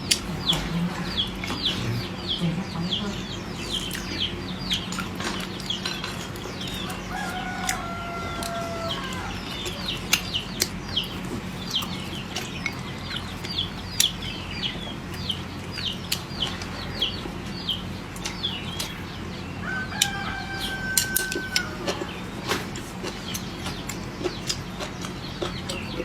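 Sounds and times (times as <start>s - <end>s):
chickens peeping: 0.0s - 26.0s
steady low hum: 0.0s - 26.0s.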